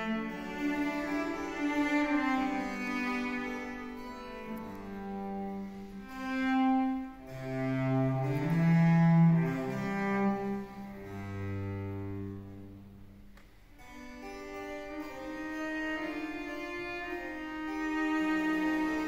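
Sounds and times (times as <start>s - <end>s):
cello bowed notes: 0.0s - 19.0s.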